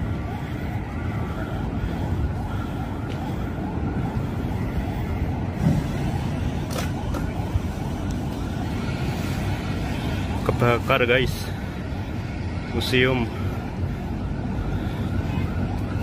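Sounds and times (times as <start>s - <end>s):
city traffic rumble: 0.0s - 16.0s
distant sirens wailing: 0.0s - 16.0s.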